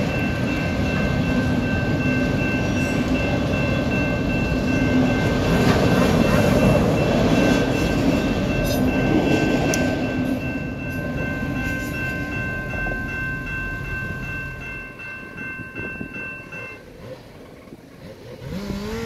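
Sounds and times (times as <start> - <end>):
crossing warning bells ringing: 0.0 - 18.8
freight train rolling past: 0.0 - 18.9.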